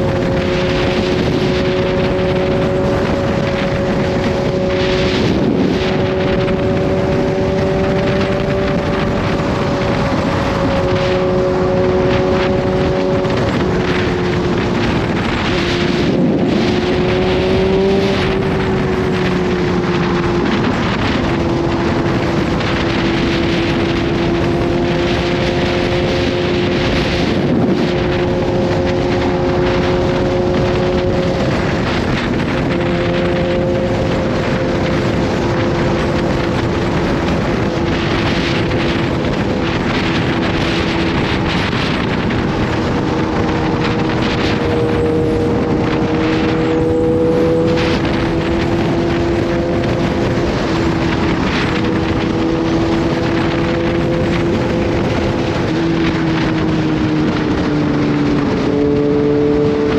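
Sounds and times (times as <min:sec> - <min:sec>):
motorcycle engine cruising: 0:00.0 - 0:59.9
wind rushing over microphone: 0:00.0 - 0:59.9.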